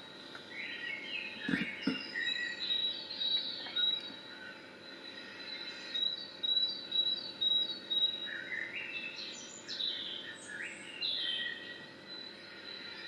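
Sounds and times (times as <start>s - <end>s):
songbird calls and song: 0.0s - 13.0s.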